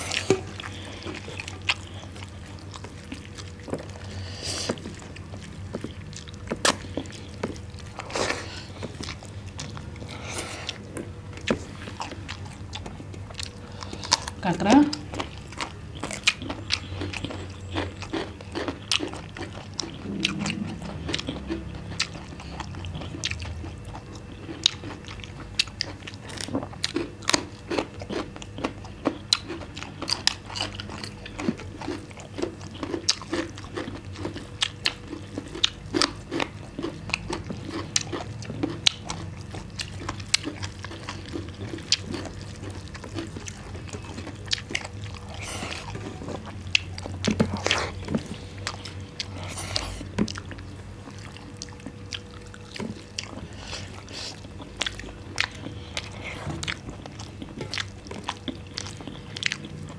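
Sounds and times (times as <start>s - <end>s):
crunchy chewing of raw vegetables: 0.0s - 59.9s.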